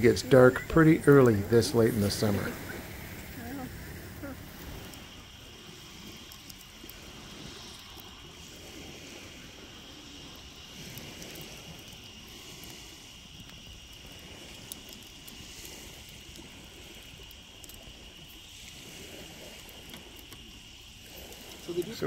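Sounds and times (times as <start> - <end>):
high insect trill: 0.0 - 22.0
wind and water wash: 0.0 - 22.0
wood fire crackling: 0.0 - 22.0.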